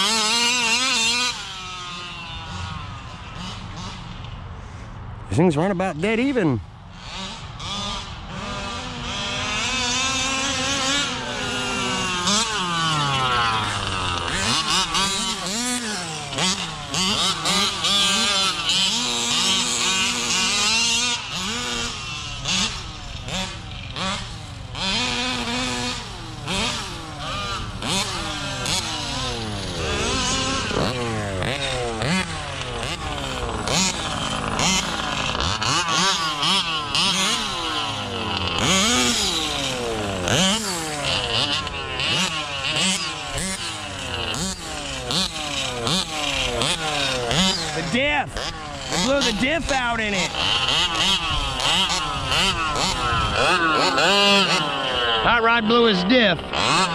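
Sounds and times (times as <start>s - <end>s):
two-stroke engines revving: 0.0s - 56.9s.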